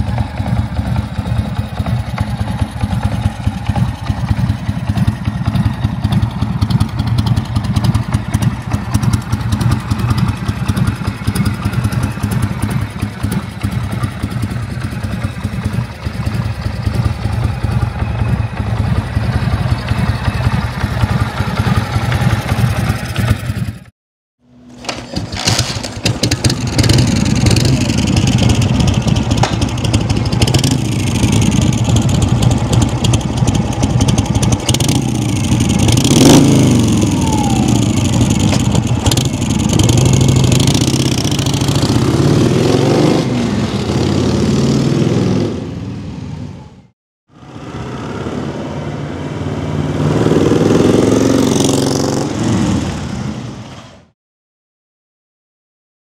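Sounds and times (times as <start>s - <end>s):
motorcycle engine running loud: 0.0s - 23.9s, 24.8s - 46.7s, 47.4s - 53.6s
motorcycle riding off: 0.0s - 23.9s, 24.7s - 46.5s, 47.4s - 54.0s.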